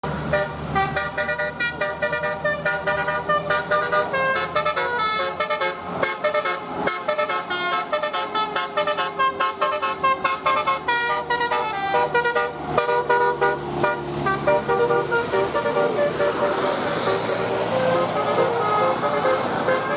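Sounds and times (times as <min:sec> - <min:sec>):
multi-tone air horn melody: 0:00.2 - 0:19.9.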